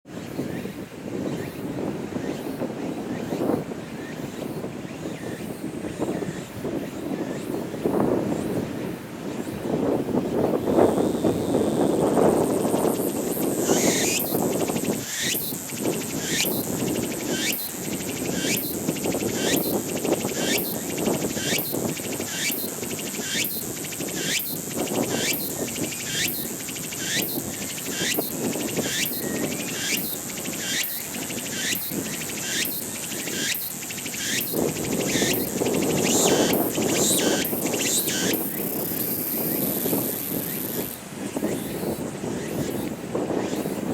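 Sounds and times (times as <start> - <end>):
cicada singing: 0.2 - 43.9.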